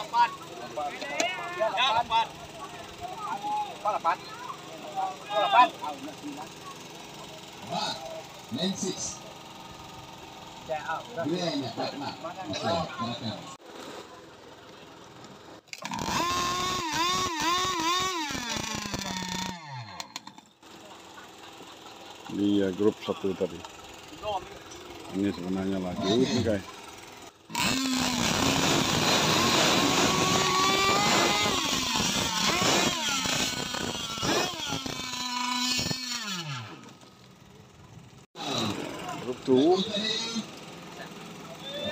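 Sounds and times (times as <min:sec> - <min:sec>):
small two-stroke engine revving: 0:00.0 - 0:14.2, 0:15.6 - 0:41.9.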